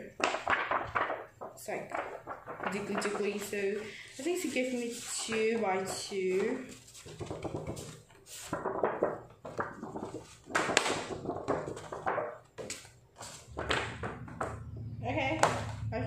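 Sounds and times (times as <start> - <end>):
thick paper flapping: 0.1 - 14.8.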